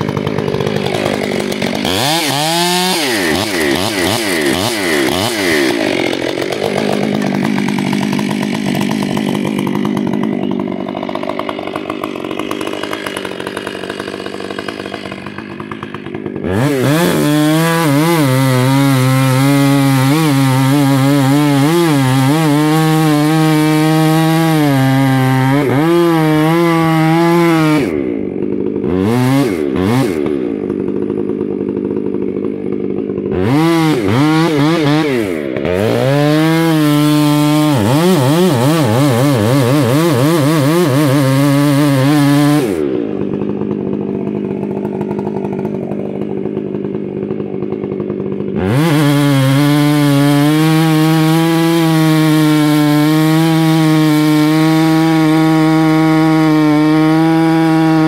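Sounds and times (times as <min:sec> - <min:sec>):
chainsaw cutting a tree trunk: 0:00.0 - 0:58.0.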